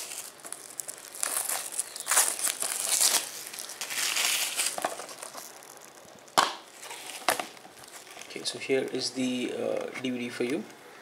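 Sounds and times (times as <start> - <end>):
plastic shrink wrap crinkling: 0.0 - 10.6.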